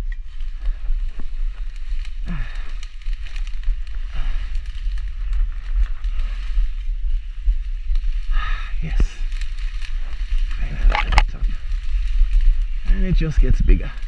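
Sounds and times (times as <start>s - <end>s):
camera jostling rumble: 0.0s - 14.0s
rustling and snapping vegetation: 0.0s - 14.0s.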